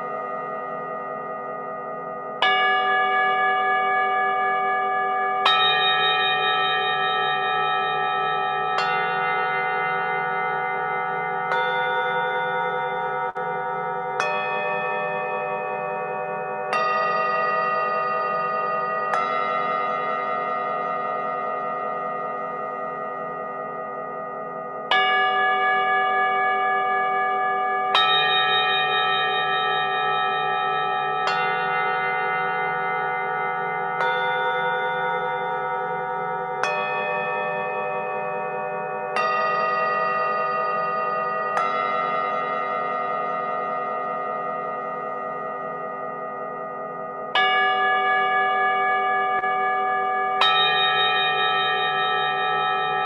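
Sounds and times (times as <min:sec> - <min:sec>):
singing bowls ringing: 0:00.0 - 0:53.0.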